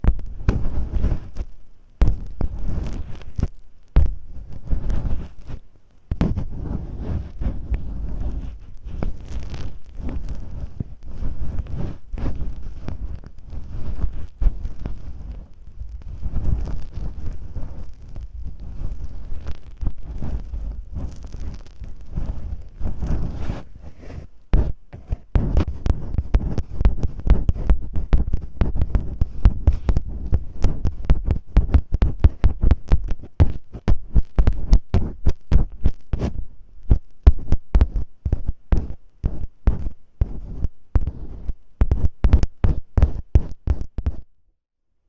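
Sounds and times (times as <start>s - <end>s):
tape crackling on a microphone: 0.0s - 44.3s.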